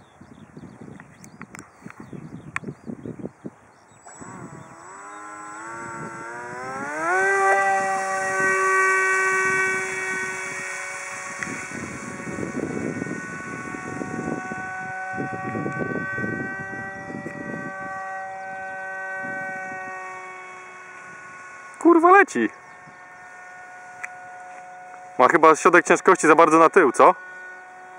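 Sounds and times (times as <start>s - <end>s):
model jet motor whine: 0.6s - 27.9s.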